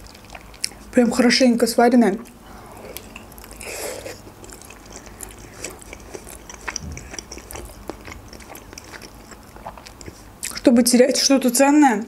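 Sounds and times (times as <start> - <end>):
chewing with mouth clicks: 0.0 - 0.9, 2.2 - 11.2.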